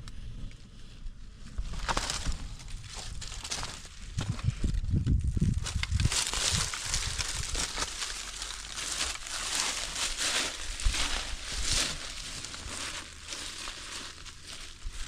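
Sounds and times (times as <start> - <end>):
rustling and crunching: 0.0 - 15.0.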